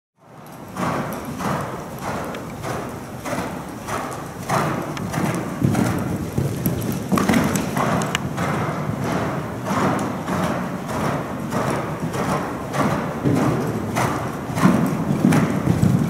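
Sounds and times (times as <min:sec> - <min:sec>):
horse hoofbeats cantering on sand: 0:00.2 - 0:16.0.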